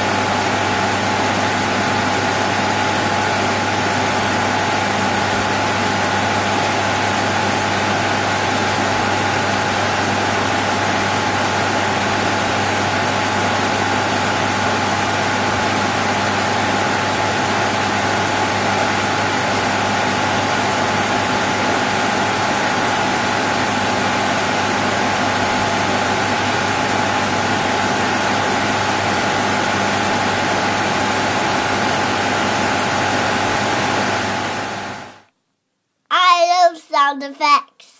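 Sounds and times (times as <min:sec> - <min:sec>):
computer cooling fans rushing: 0:00.0 - 0:35.2.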